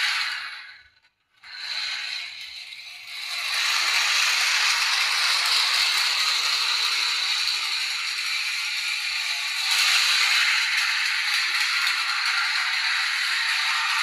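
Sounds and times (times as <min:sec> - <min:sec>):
small motor whirring rattle: 0:00.0 - 0:14.0.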